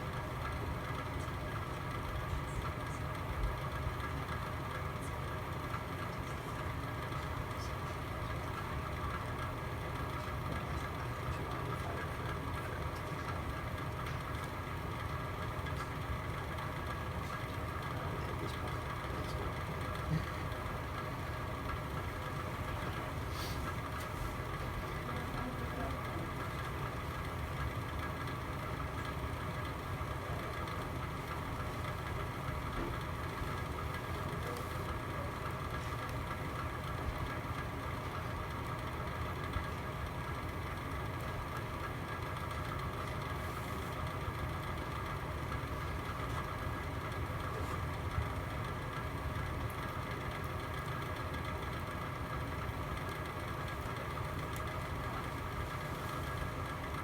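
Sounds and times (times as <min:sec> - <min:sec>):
faint fire crackles: 0:00.0 - 0:57.0.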